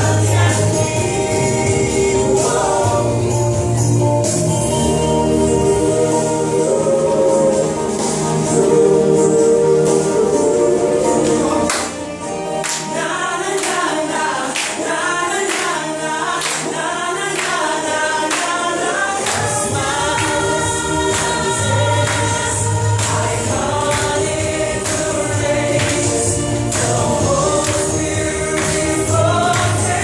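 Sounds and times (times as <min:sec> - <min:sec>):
vocal group singing in harmony: 0:00.0 - 0:30.0.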